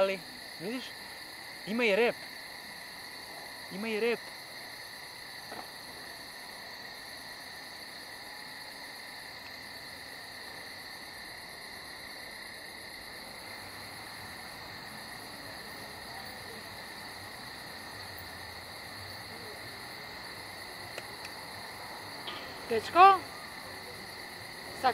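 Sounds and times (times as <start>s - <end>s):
crickets trilling: 0.0s - 24.9s.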